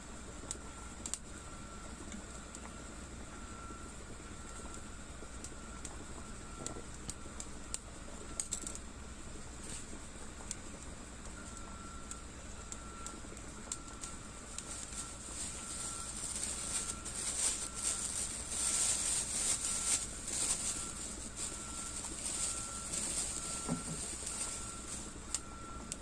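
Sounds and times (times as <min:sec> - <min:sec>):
water boiling in a saucepan: 0:00.0 - 0:26.0
small ticks: 0:00.4 - 0:01.3, 0:04.4 - 0:08.9, 0:09.7 - 0:26.0.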